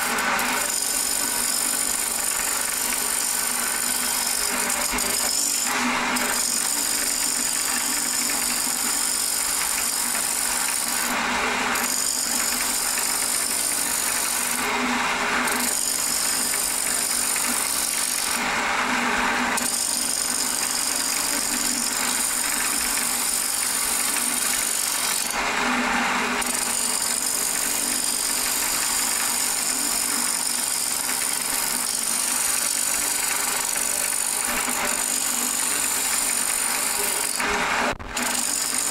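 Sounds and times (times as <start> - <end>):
tool scraping spinning wood: 0.0 - 38.9
wood lathe motor hum: 0.0 - 38.9.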